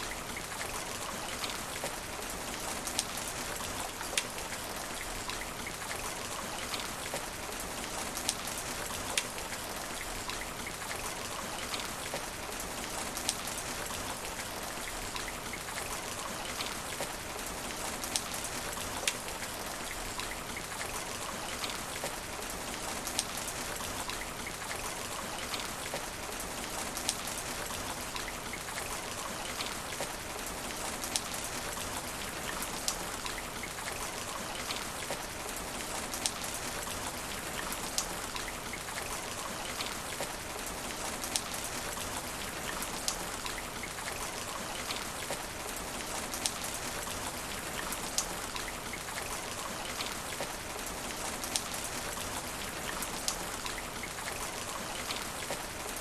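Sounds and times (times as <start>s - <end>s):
rain hissing on asphalt: 0.0s - 56.0s
raindrops splatting close by: 0.0s - 56.0s.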